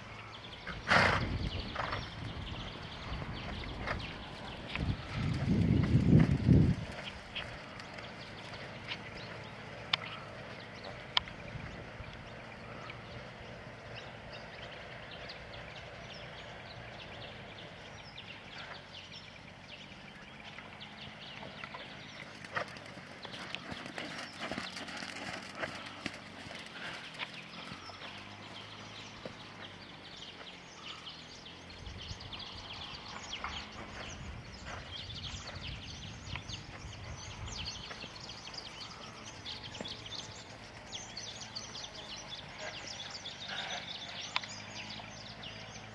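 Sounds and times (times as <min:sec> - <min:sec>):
horse hooves on sand: 0:00.7 - 0:19.2, 0:19.8 - 0:31.7, 0:32.3 - 0:45.9.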